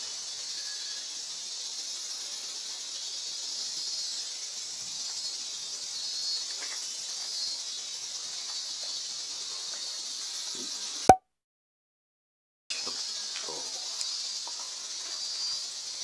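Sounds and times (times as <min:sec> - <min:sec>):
insect chorus drone: 0:00.0 - 0:10.8, 0:12.8 - 0:16.0.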